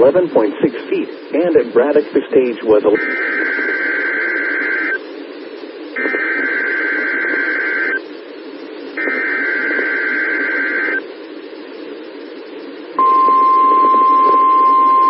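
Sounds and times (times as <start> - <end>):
radio hiss: 0.0 - 15.0.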